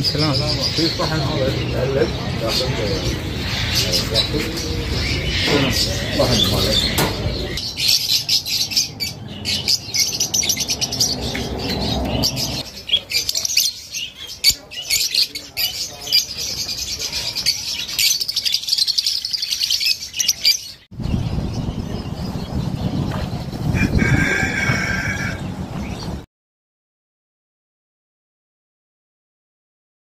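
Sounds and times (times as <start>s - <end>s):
small birds chirping and chattering: 0.0s - 26.2s.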